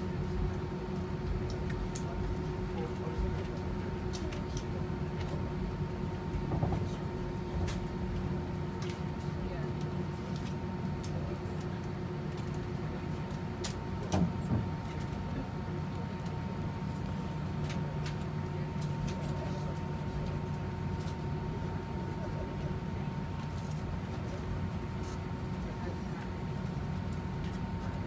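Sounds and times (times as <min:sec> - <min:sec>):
airliner cabin hum: 0:00.0 - 0:28.0.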